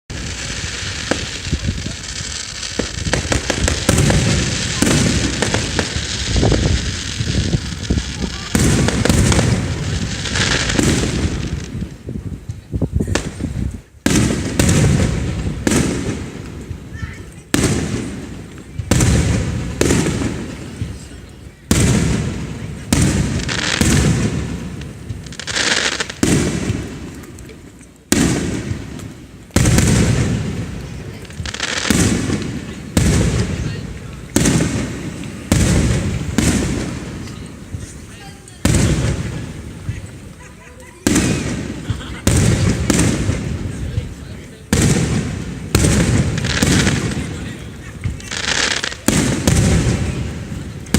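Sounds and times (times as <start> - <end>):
fireworks crackling pops: 0.1 - 50.9
fireworks deep booms: 0.1 - 50.9.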